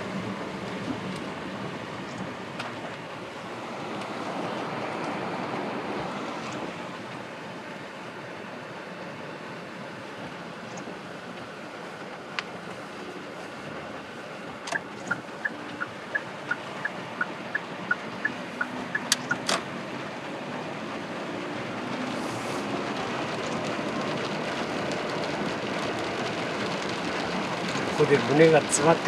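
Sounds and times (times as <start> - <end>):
vehicle driving in rain: 0.0 - 29.0.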